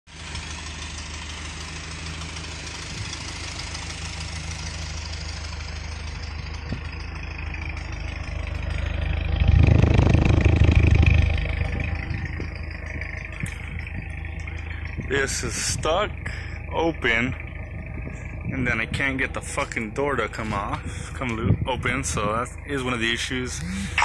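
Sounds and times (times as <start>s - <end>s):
pickup truck engine idling: 0.1s - 24.0s.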